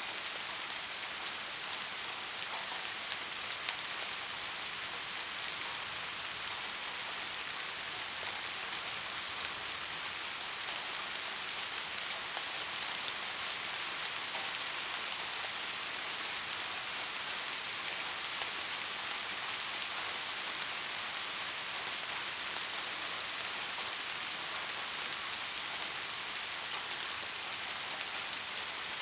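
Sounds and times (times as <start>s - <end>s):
soft rain falling: 0.0s - 29.0s.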